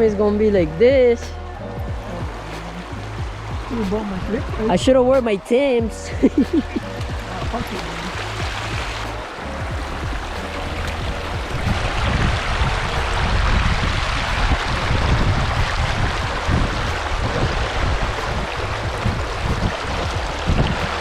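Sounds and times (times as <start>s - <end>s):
creek water rushing: 0.0s - 21.0s
wind buffeting microphone: 0.0s - 21.0s.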